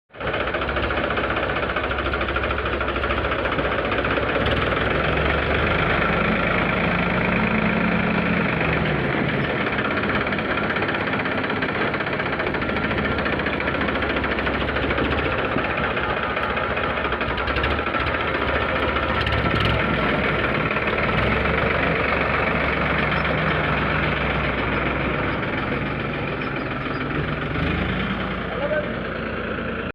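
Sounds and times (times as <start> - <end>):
tractor diesel engine running: 0.1 - 29.9.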